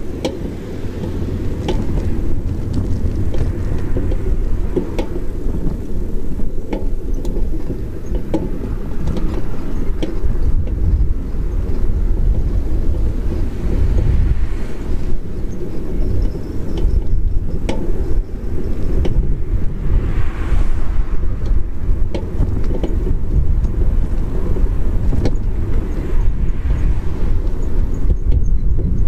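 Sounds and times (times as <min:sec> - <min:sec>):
bicycle clicks and rattles: 0:00.0 - 0:29.0
road rumble: 0:00.0 - 0:29.0
wind buffeting microphone: 0:00.0 - 0:29.0.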